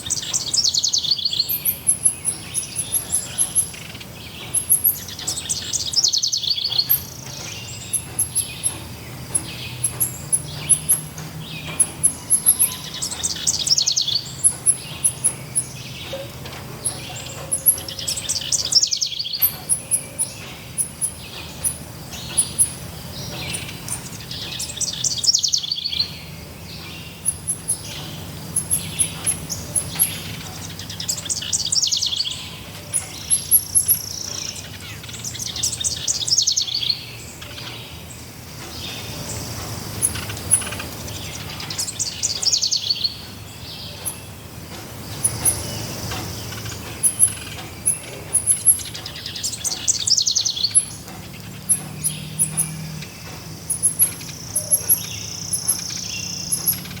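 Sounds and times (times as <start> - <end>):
high bird chirps: 0.0 - 44.4, 45.0 - 57.0.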